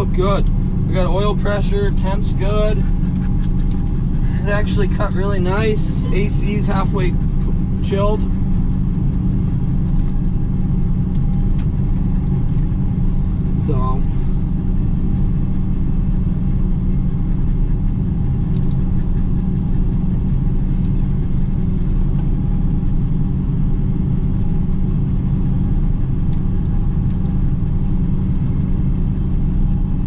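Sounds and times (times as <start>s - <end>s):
harvester engine drone: 0.0s - 30.0s.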